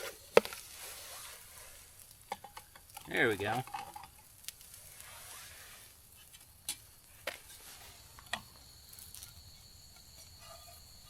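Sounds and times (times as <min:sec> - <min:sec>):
pancake sizzling: 0:00.0 - 0:11.0.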